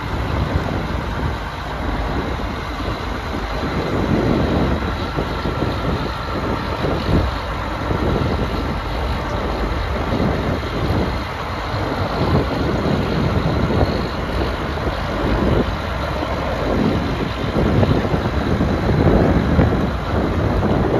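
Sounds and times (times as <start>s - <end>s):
diesel tractor engine idling: 0.0s - 20.9s
low rumble: 0.0s - 20.9s.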